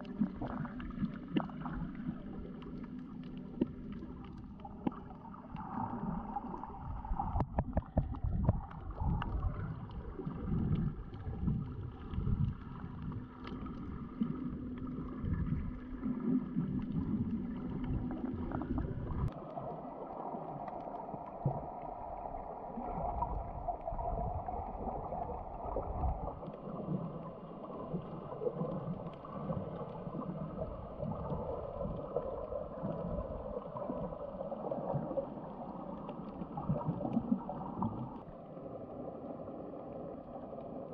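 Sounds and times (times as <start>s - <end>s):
water sloshing and gurgling: 0.0s - 40.9s.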